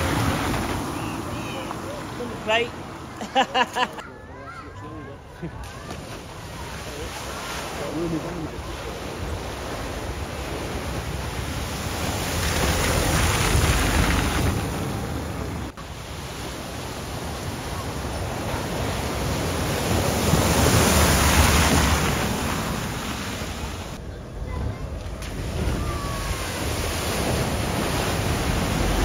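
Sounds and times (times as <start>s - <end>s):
vehicles splashing through water: 0.0s - 29.0s.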